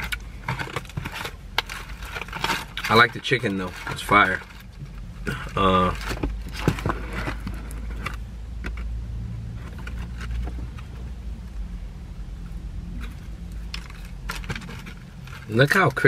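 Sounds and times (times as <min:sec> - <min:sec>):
low rumble inside a car: 0:00.0 - 0:16.0.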